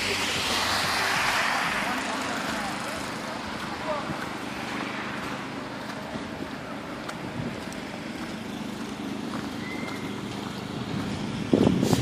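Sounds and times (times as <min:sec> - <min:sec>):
street noise: 0:00.0 - 0:12.0
vehicle engine idling: 0:00.0 - 0:12.0.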